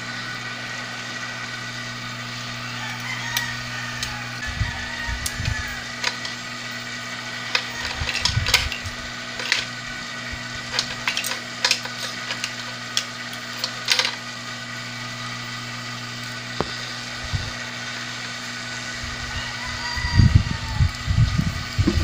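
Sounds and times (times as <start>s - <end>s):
hot air blower humming: 0.0s - 22.0s.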